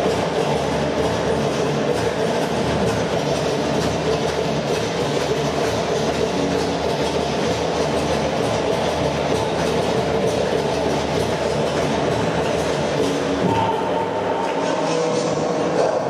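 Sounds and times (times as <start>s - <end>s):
music over loudspeakers: 0.0s - 16.0s.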